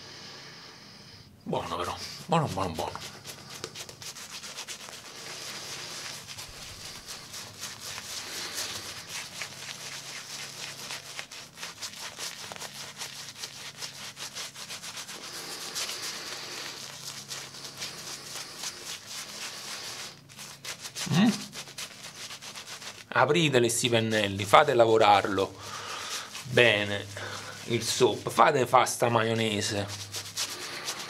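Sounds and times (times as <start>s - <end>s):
shaving brush swishing in soap: 1.5s - 31.0s.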